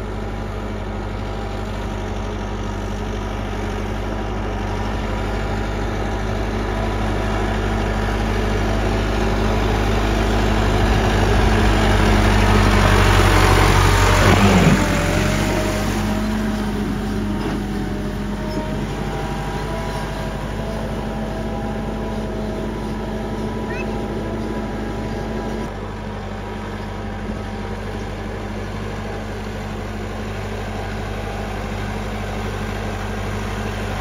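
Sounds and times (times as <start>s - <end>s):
tractor diesel engine running: 0.0s - 34.0s
tyres churning in mud: 0.0s - 34.0s.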